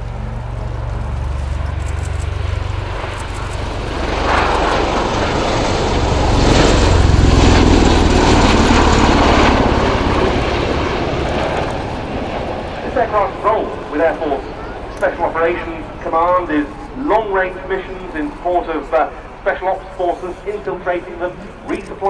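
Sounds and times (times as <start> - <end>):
tiltrotor aircraft flying: 0.0 - 22.0.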